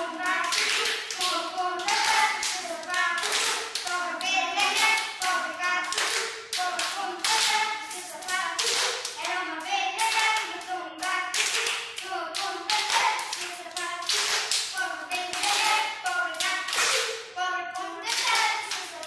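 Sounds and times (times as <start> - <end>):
children chanting: 0.0 - 19.0
children clapping hands: 0.0 - 19.0.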